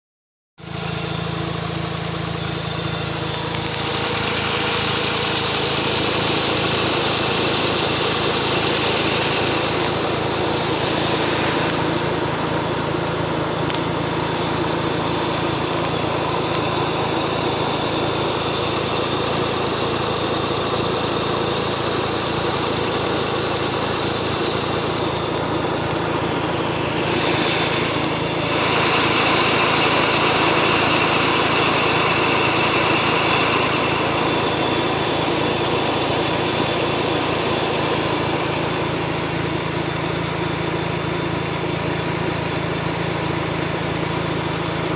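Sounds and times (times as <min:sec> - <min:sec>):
rotary engine running: 0:00.6 - 0:44.9.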